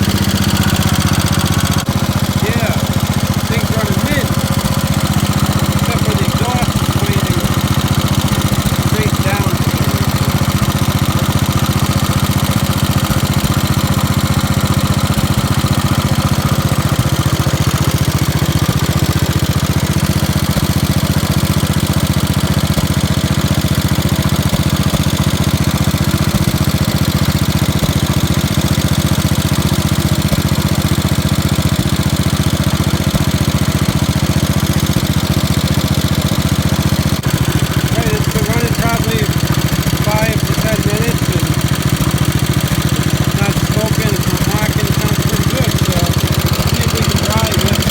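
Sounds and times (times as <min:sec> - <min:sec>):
single-cylinder engine running: 0:00.0 - 0:47.9.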